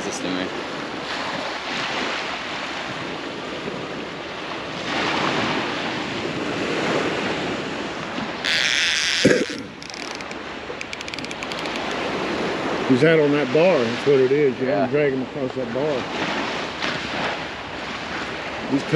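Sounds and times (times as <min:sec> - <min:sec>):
waves washing on beach: 0:00.1 - 0:08.4, 0:11.9 - 0:18.9.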